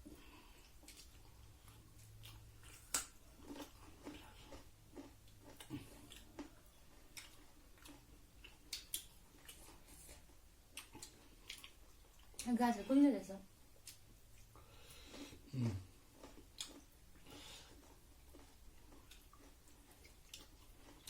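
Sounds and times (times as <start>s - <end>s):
soft chewing: 0.0s - 21.0s.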